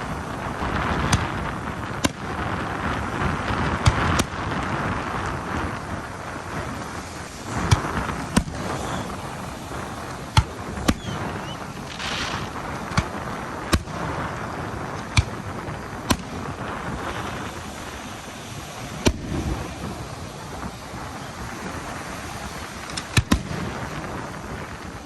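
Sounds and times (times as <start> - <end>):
background rumble: 0.0 - 25.0
fireworks bangs: 0.0 - 25.0.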